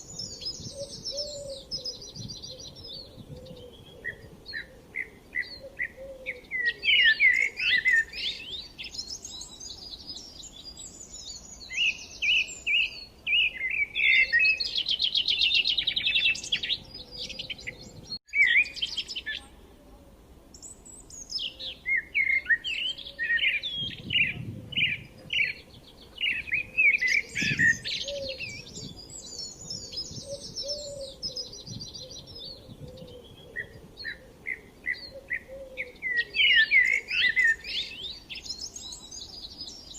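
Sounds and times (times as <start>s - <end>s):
birds chirping and singing: 0.0s - 19.5s, 20.5s - 39.9s.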